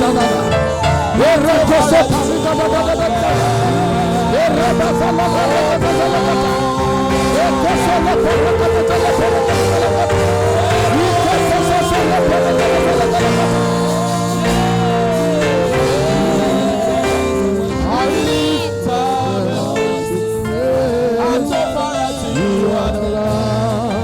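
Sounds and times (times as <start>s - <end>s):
bass: 0.0s - 24.0s
keyboard chords: 0.0s - 24.0s
voices singing gospel song: 0.0s - 24.0s.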